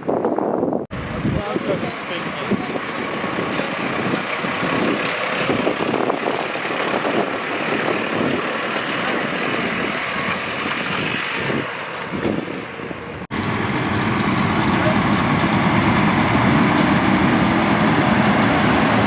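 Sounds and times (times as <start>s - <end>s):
traffic noise: 0.9s - 19.0s
vehicle engine: 0.9s - 19.0s.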